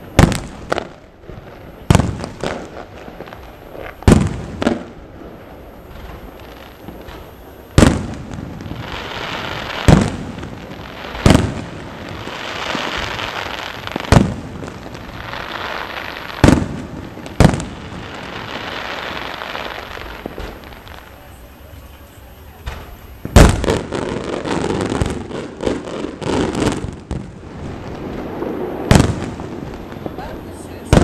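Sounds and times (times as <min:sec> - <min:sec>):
crackling hiss of burning stars: 0:00.0 - 0:31.0
firework shells booming: 0:00.0 - 0:31.0.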